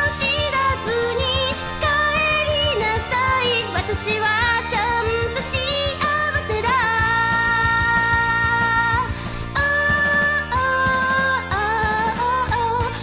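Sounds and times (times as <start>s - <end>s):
backing track: 0.0s - 13.0s
woman singing pop song: 0.0s - 13.0s.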